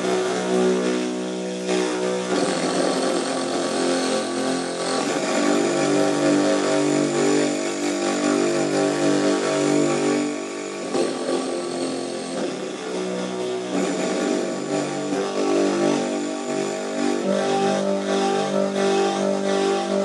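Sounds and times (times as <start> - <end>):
distorted electric guitar: 0.0 - 20.0.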